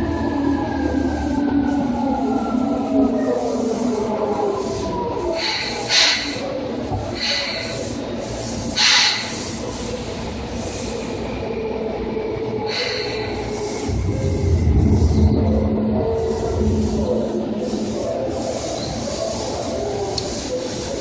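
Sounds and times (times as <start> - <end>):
low train rumble: 0.0 - 21.0
train rolling noise: 0.0 - 21.0.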